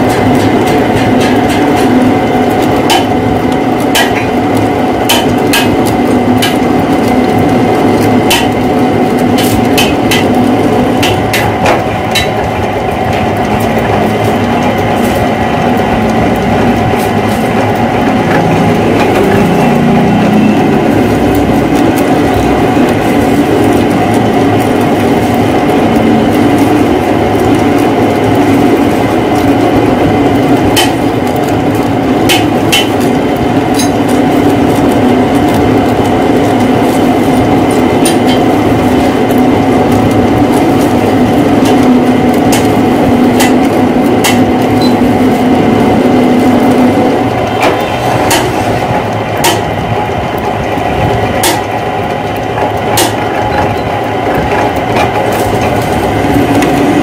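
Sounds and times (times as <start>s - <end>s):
metal lathe running: 0.0s - 57.0s.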